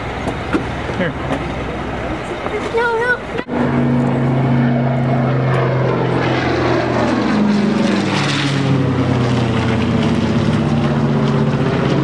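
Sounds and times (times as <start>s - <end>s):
propeller plane engines droning: 0.0s - 12.0s.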